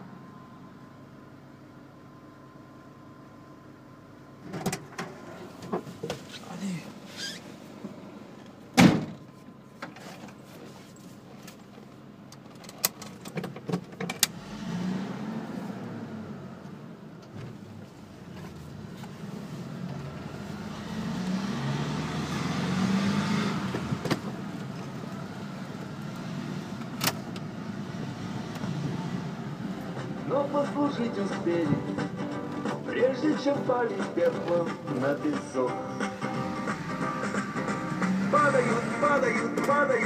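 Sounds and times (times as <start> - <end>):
car engine and tyres: 0.0 - 40.0.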